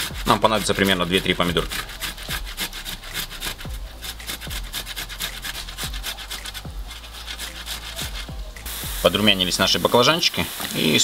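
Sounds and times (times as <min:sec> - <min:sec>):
tomato rasping on metal grater: 0:00.0 - 0:10.1.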